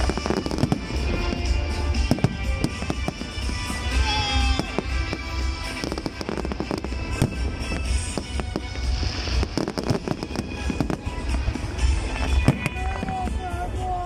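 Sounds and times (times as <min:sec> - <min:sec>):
fireworks bangs and crackling: 0:00.0 - 0:14.0
music: 0:00.0 - 0:14.0.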